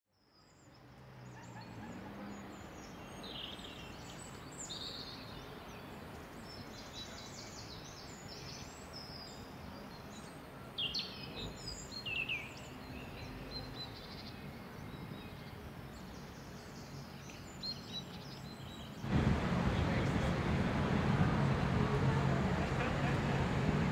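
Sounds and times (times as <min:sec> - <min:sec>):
low hum of city ambience: 0:00.1 - 0:23.9.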